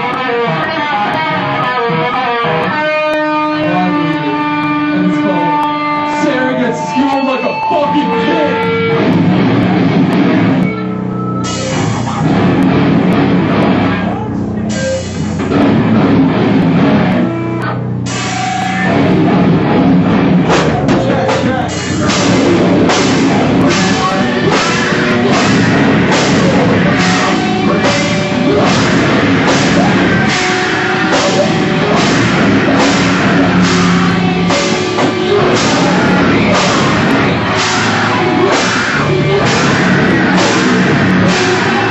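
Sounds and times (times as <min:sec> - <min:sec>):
drum kit beat: 0:00.0 - 0:41.9
electric guitar: 0:00.0 - 0:41.9.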